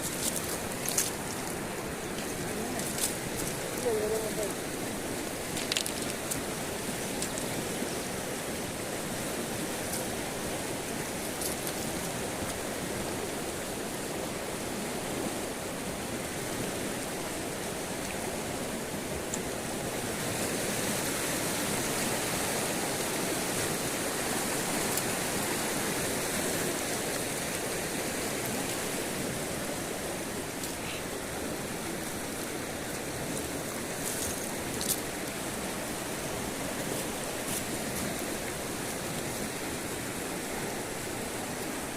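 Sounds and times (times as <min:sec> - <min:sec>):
river water running over rocks: 0:00.0 - 0:41.9.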